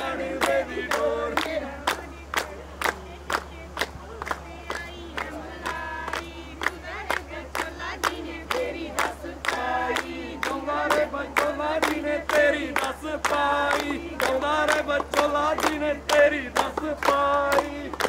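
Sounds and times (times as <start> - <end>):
crowd chanting in unison: 0.0 - 2.3, 4.8 - 18.0.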